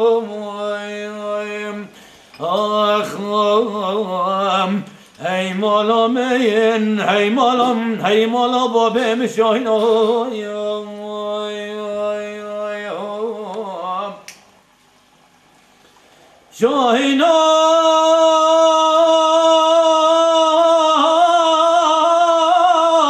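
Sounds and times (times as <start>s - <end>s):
man singing solo: 0.0s - 14.3s, 16.5s - 23.0s.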